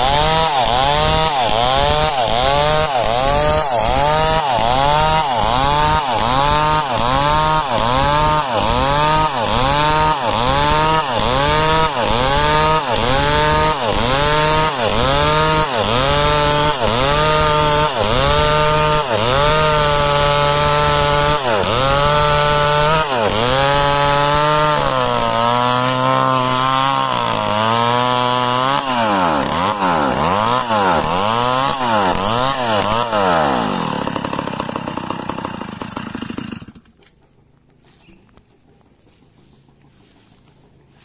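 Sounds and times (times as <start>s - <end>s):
chainsaw cutting a log: 0.0s - 37.2s.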